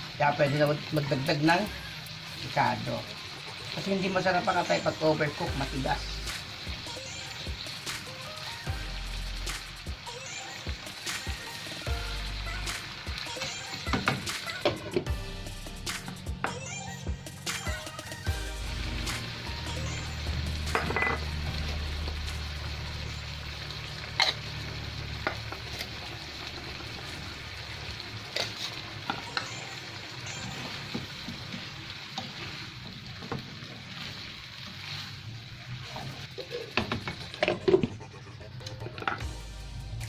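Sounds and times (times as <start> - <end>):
liver sizzling in a pan: 0.0 - 15.0, 17.8 - 37.7.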